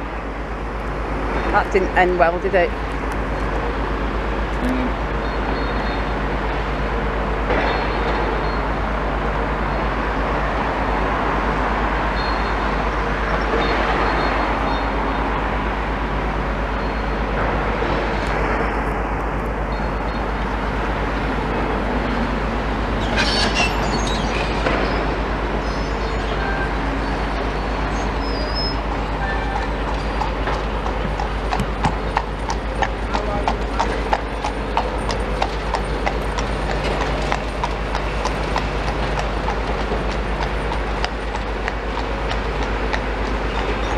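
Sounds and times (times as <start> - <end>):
excavator diesel engines rumbling: 0.0 - 43.9
traffic noise: 0.0 - 43.9.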